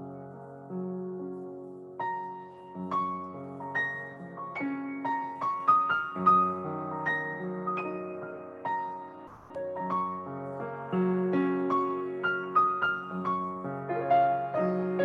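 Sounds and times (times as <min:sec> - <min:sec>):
slow solo piano piece: 0:00.0 - 0:15.0.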